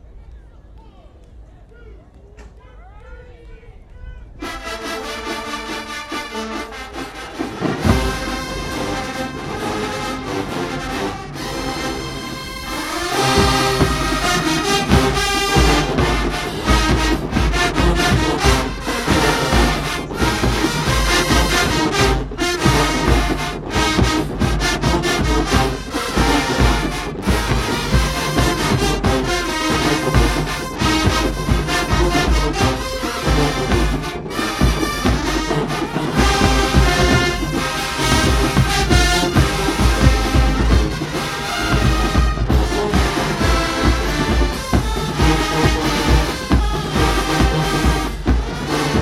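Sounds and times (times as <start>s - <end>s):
marching band playing: 4.2s - 49.0s
bass drum and percussion: 7.4s - 49.0s.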